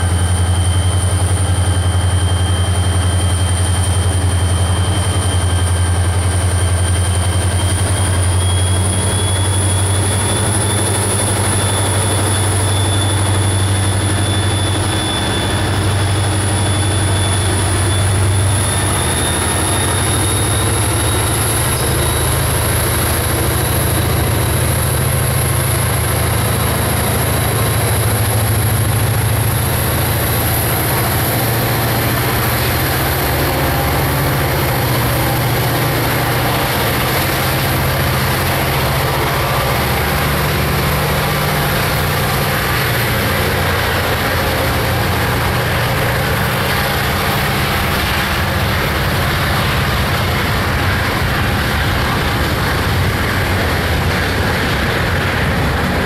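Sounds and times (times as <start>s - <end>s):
locomotive engine drone: 0.0s - 56.0s
turbocharger whine: 0.0s - 56.0s.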